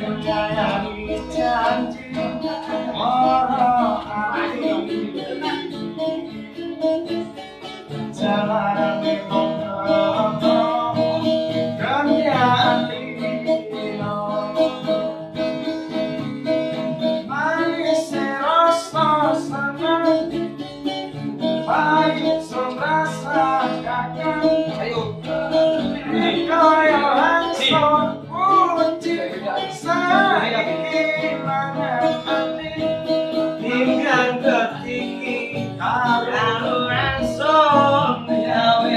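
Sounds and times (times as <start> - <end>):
guitar accompaniment: 0.0 - 38.9
man singing: 0.0 - 38.9.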